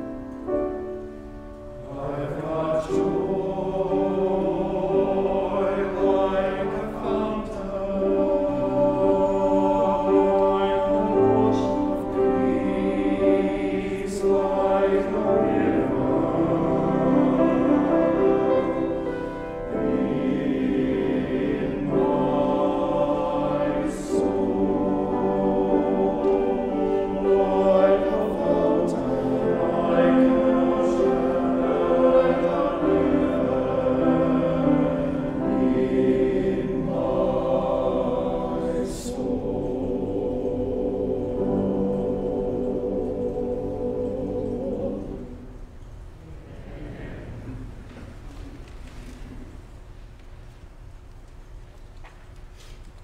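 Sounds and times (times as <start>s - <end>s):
men's choir singing: 1.7s - 45.8s, 46.4s - 47.8s.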